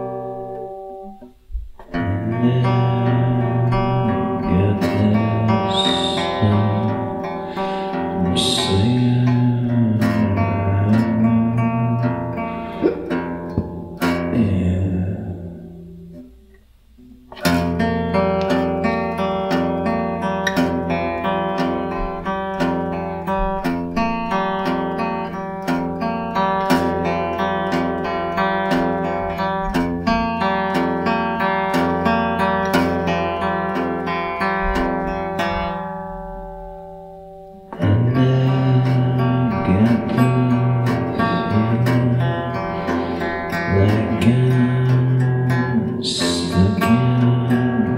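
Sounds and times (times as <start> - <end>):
blues guitar picking: 0.0 - 47.9.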